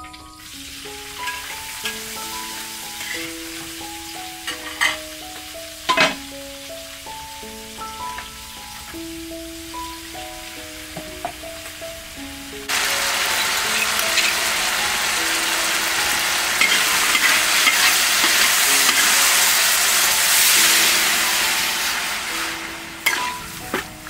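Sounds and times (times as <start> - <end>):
light background music: 0.0 - 24.0
meat sizzling in a wok: 0.4 - 24.0.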